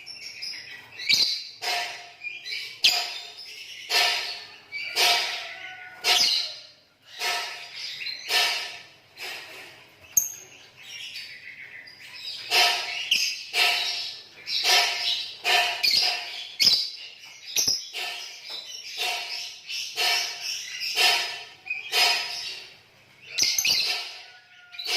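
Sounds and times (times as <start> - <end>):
lovebirds chattering shrilly: 0.6 - 24.9.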